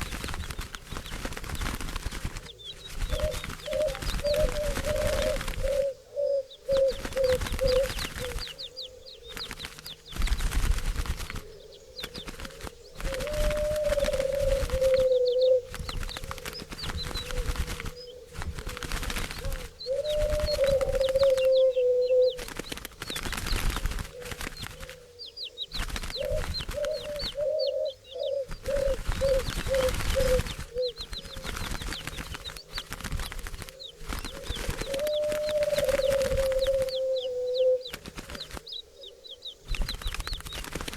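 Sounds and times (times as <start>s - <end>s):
rustling noise: 0.0s - 5.9s, 6.7s - 27.4s, 28.4s - 37.1s, 37.8s - 38.8s, 39.6s - 40.9s
doves cooing: 0.0s - 40.9s
small birds chirping: 0.0s - 40.9s.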